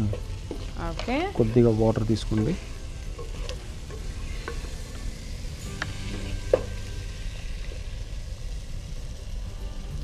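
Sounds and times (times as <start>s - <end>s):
vegetables frying in a pan: 0.0s - 10.0s.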